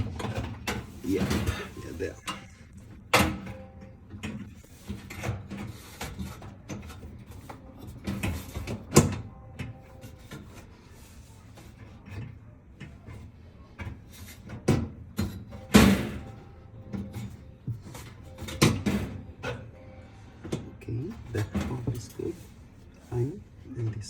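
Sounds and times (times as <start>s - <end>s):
oven parts clicking and knocking: 0.0s - 10.9s, 11.5s - 19.8s, 20.4s - 22.4s.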